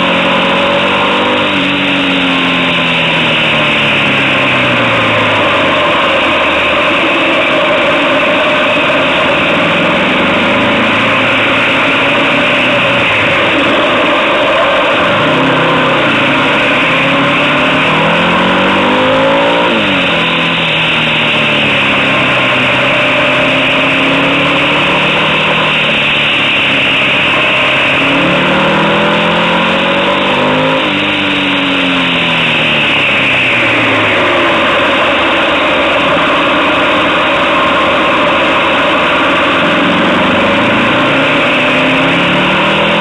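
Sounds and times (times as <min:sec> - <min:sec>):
motorcycle engine accelerating: 0:00.0 - 0:43.0
wind and road rushing noise: 0:00.0 - 0:43.0.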